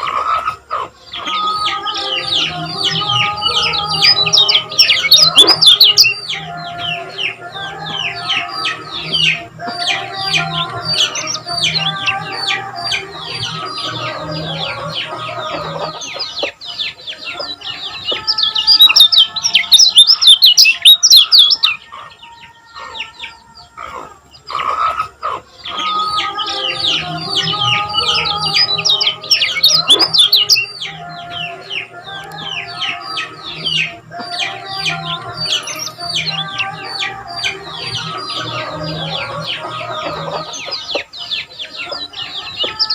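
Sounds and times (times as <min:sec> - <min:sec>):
bird chirping song: 0:00.0 - 0:42.9.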